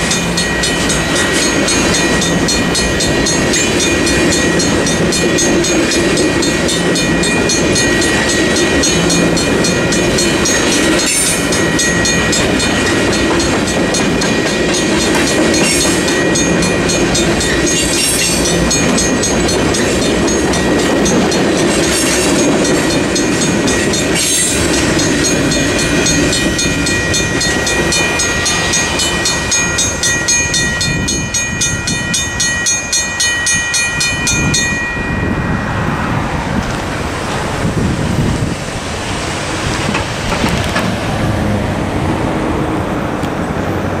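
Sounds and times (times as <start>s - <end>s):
mechanical crossing bell ringing: 0.0s - 36.2s
cars rumbling across tracks: 0.0s - 44.0s
freight train rumbling past: 0.0s - 44.0s.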